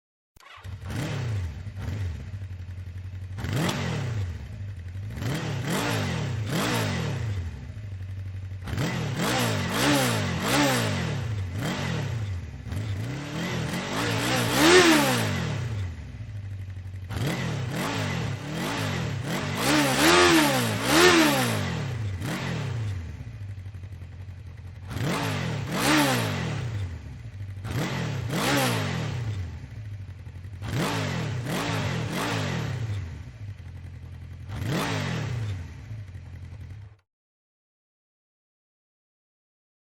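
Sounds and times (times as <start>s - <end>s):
engine revving: 0.4s - 37.0s.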